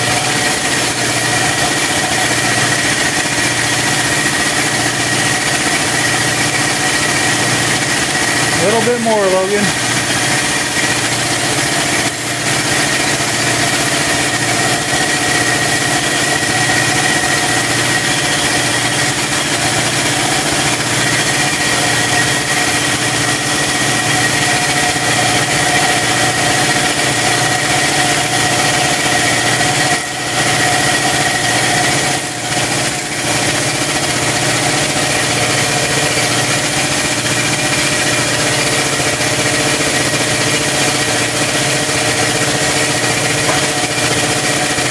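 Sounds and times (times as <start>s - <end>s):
engine running with whine: 0.0s - 44.9s.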